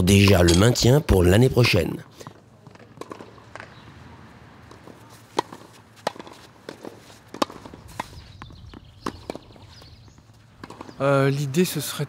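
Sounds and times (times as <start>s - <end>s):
tennis balls struck by racquets: 0.0s - 11.2s.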